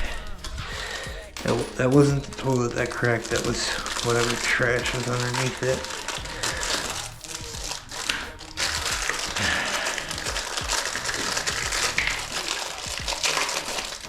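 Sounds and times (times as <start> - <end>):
plastic crinkling and rustling: 0.0 - 14.0.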